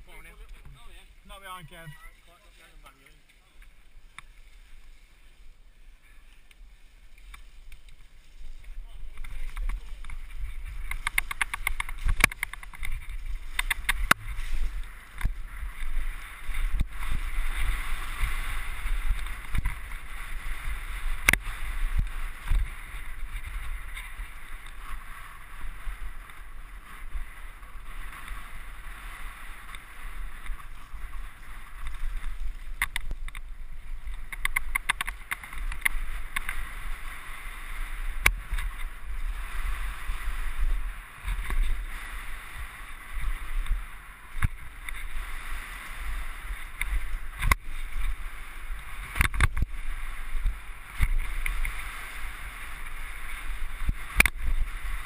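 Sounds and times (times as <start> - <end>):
wind rumble on microphone: 3.9 - 55.0
bike rattling and clicking: 6.3 - 55.0.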